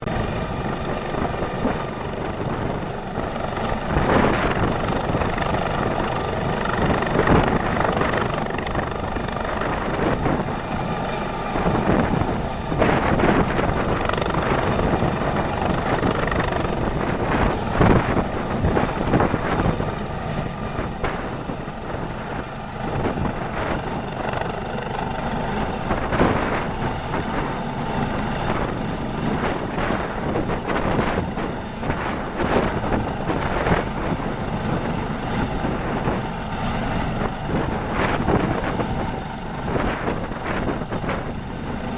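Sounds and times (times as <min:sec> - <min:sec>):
helicopter rotor and turbine roar: 0:00.0 - 0:41.9.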